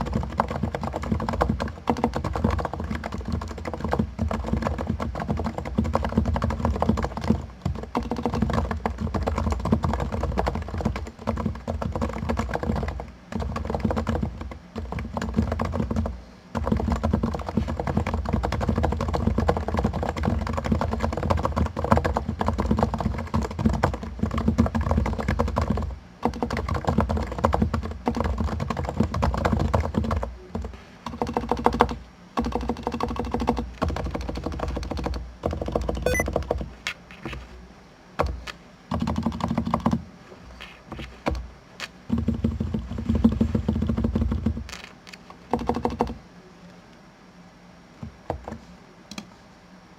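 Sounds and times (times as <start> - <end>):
fast typing on keyboard: 0.0 - 37.4, 38.2 - 40.0, 40.6 - 46.2, 48.3 - 48.6.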